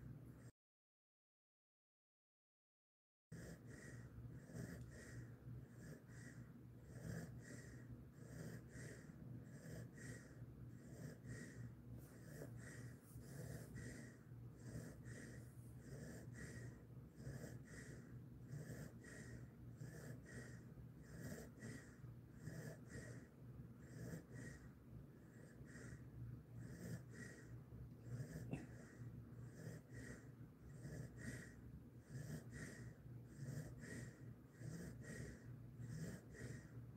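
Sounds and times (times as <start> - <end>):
dog breathing softly: 3.3 - 36.9.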